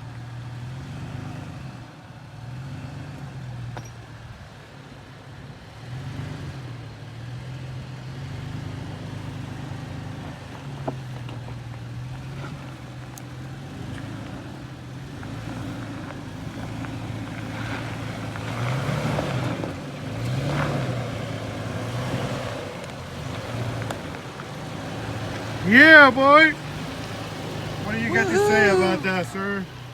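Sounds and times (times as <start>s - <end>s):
off-road vehicle engine revving: 0.0s - 3.8s, 5.6s - 29.9s.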